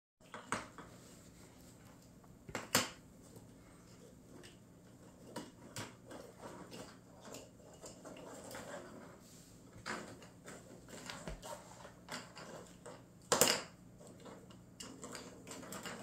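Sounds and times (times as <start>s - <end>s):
faint steady hum: 0.2s - 16.0s.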